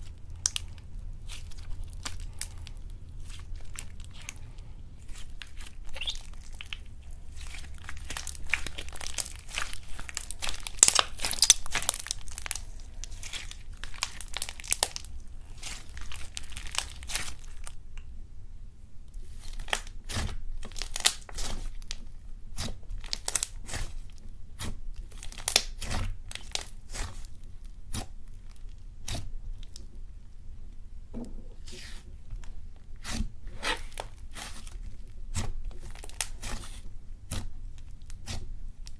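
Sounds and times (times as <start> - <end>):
slime crackling and tearing: 0.0 - 17.8, 19.2 - 29.9, 31.8 - 38.9.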